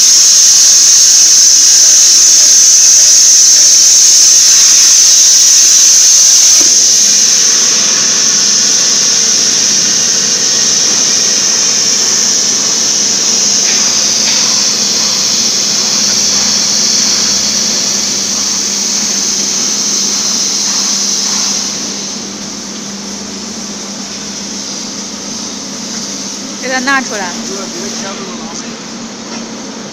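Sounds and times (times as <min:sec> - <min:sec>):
plasma torch arc hiss: 0:00.0 - 0:28.4
high-pitched air hiss: 0:00.0 - 0:29.8
low machine hum: 0:00.0 - 0:29.9.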